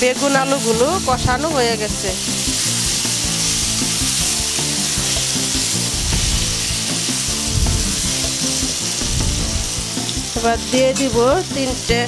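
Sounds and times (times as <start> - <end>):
background music: 0.0 - 12.0
food sizzling in oil: 0.0 - 12.0.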